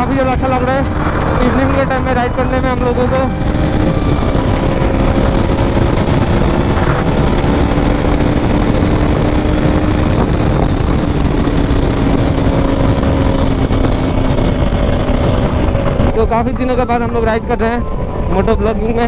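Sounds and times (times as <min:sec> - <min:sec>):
motorcycle engine cruising: 0:00.0 - 0:19.0
wind rumble on microphone: 0:00.0 - 0:19.0.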